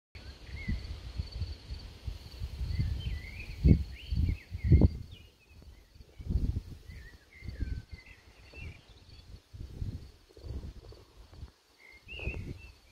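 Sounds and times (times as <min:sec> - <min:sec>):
high insect trill: 0:00.2 - 0:12.9
wind buffeting microphone: 0:00.2 - 0:12.9
small birds chirping: 0:02.4 - 0:12.9.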